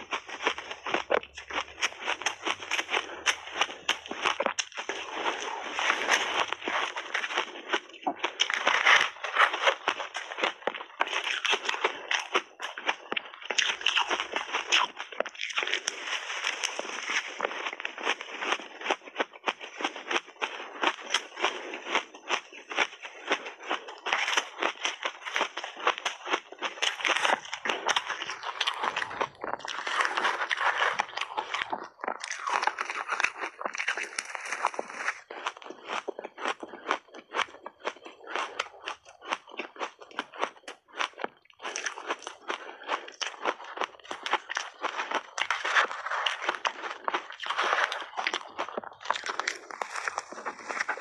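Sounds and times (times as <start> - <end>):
ice crunching being chewed: 0.0 - 51.0.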